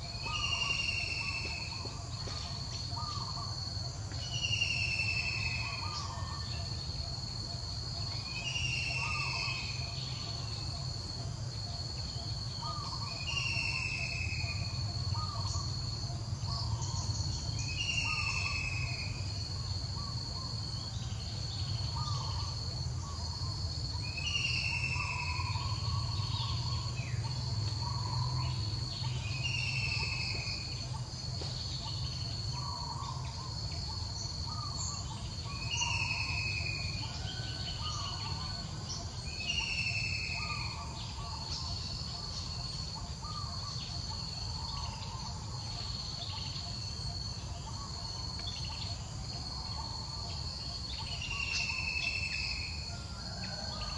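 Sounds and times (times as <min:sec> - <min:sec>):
high insect drone: 0:00.0 - 0:53.9.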